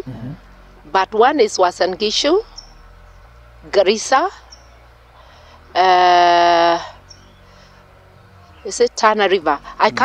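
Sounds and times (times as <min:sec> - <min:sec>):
faint background hum: 0:00.0 - 0:10.0.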